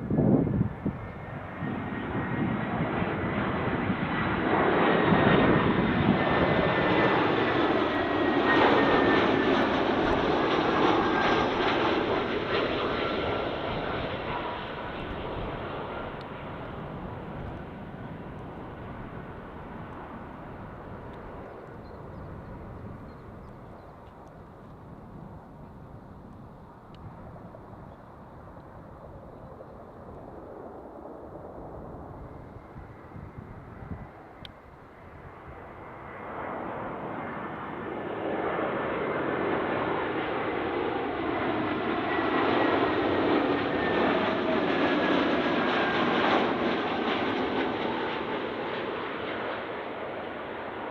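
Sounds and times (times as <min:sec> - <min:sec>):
jet airliner passing overhead: 0:00.0 - 0:50.9.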